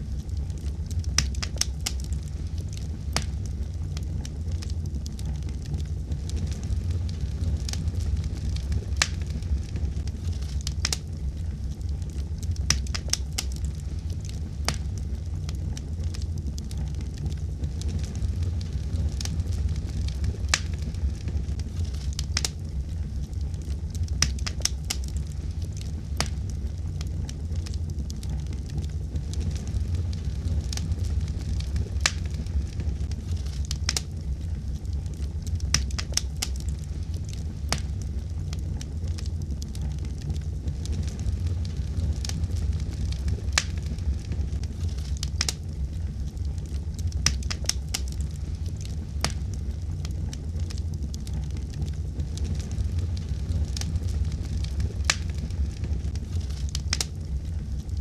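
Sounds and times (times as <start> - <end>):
fire low rumble: 0.0 - 58.0
wood fire crackling and popping: 0.0 - 58.0.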